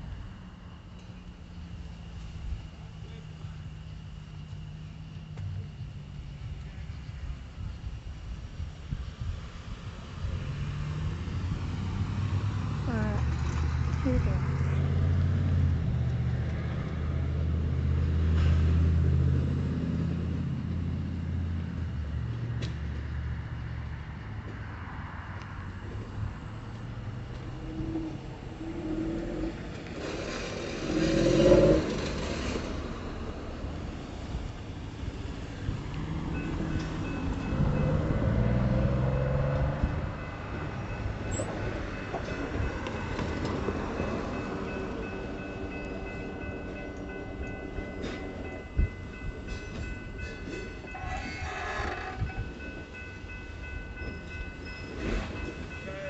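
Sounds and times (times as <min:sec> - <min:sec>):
engine droning: 0:09.3 - 0:54.8.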